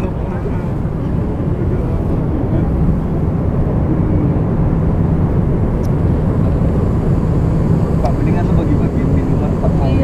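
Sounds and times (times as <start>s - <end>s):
jet cabin drone: 0.0s - 10.0s.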